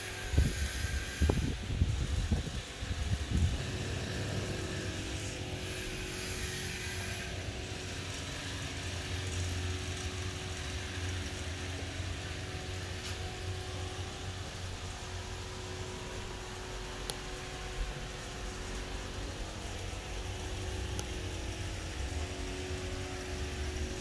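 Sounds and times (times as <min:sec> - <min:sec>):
faint steady hum: 0:00.0 - 0:24.0
steady low rumble: 0:00.4 - 0:24.0.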